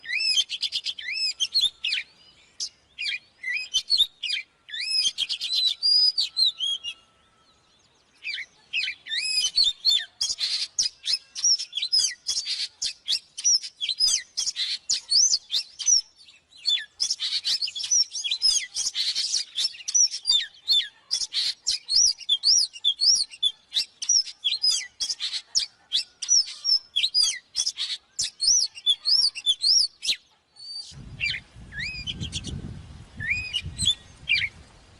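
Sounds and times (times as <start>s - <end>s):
bird singing whistled phrases: 0.0s - 32.6s, 33.2s - 34.6s.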